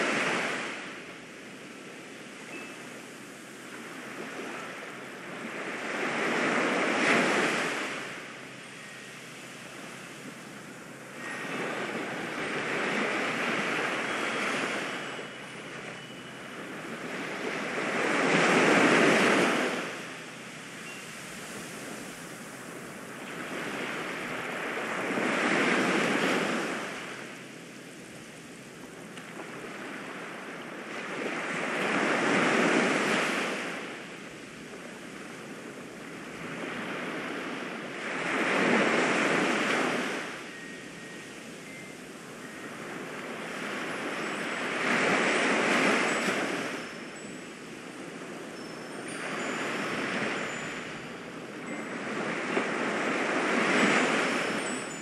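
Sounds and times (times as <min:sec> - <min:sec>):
ocean waves rolling in: 0:00.0 - 0:55.0.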